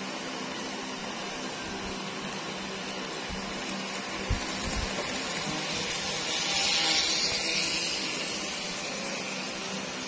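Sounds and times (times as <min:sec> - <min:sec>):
model train whirring on track: 0:00.0 - 0:10.0.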